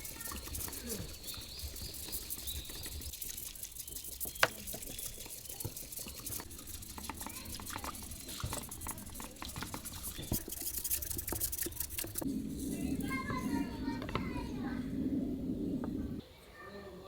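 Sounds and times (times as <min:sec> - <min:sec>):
raindrops pattering and dripping: 0:00.0 - 0:14.8.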